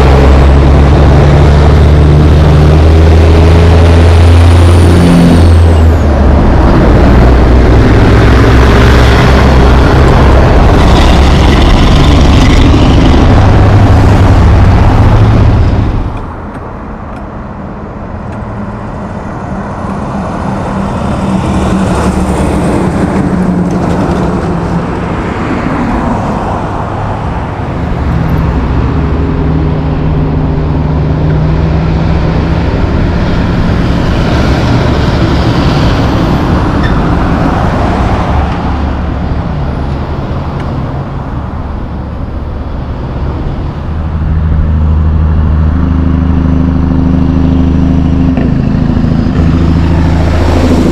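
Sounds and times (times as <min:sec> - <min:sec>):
truck and car engines passing: 0:00.0 - 0:50.9.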